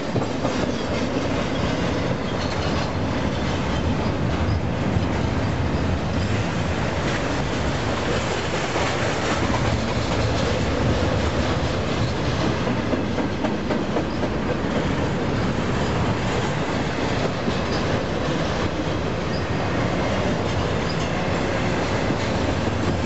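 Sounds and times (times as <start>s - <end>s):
steel wheels rolling on rails: 0.0s - 23.0s.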